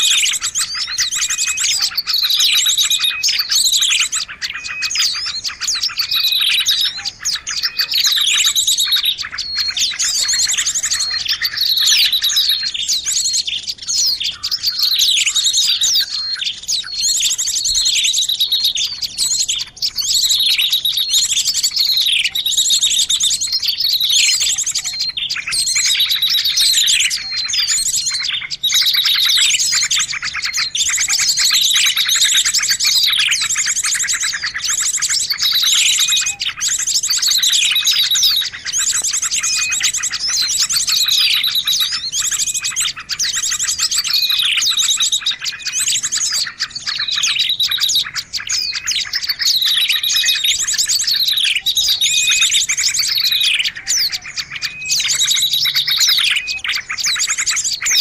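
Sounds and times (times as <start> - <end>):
small songbirds chirping and trilling: 0.0 - 58.0.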